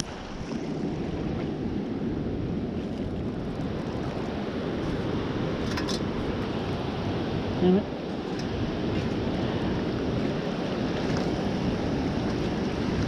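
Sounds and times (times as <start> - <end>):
sea water and surf washing: 0.0 - 13.0.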